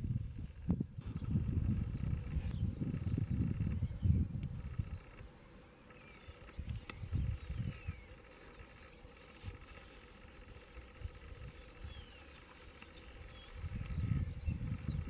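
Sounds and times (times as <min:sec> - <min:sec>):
starlings calling: 0:00.0 - 0:15.0.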